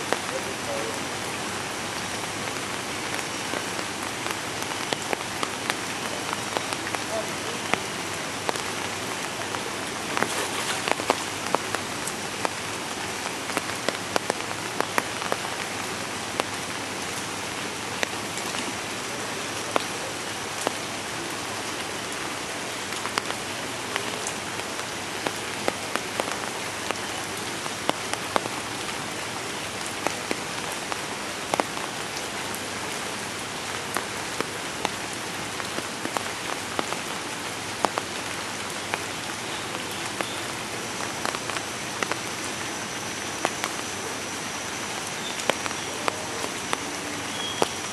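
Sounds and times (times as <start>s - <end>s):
steady rain hissing: 0.0s - 47.9s.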